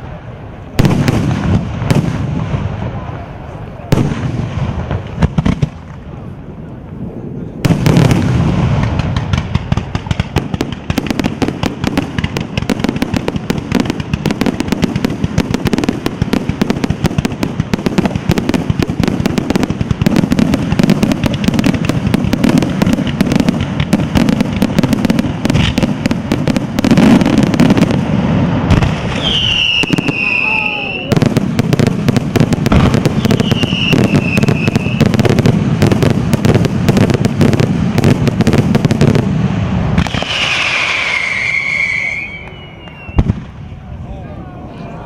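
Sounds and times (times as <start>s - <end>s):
fireworks bangs and crackling: 0.0s - 45.0s.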